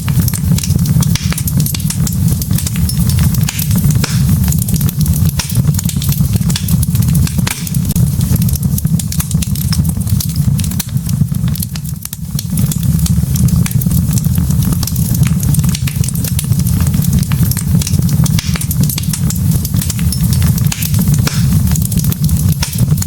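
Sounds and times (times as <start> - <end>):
logs crackling and popping: 0.0 - 23.0
low rush of flames: 0.0 - 23.0.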